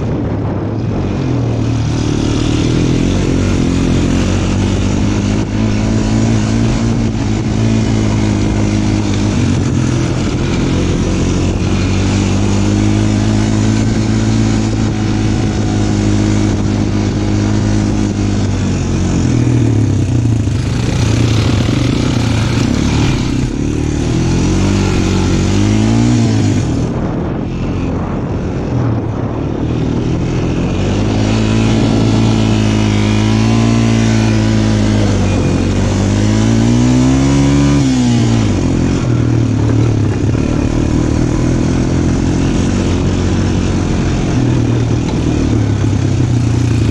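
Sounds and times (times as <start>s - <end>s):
small off-road engine revving: 0.0s - 46.9s.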